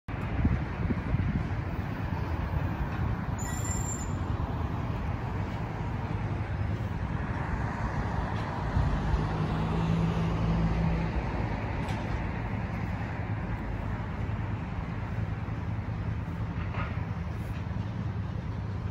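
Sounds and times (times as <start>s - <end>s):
passing cars: 0.1s - 18.9s
vehicle engine humming nearby: 0.1s - 18.9s.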